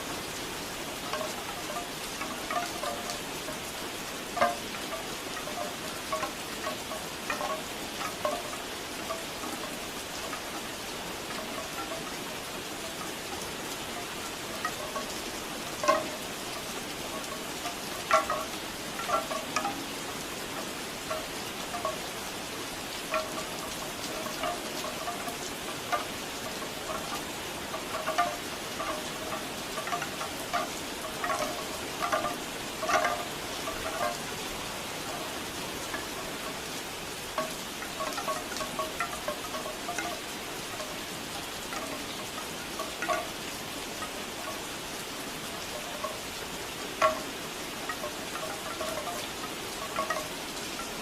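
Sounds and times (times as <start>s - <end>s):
bamboo wind chimes clacking: 0.0s - 51.0s
steady rain falling: 0.0s - 51.0s.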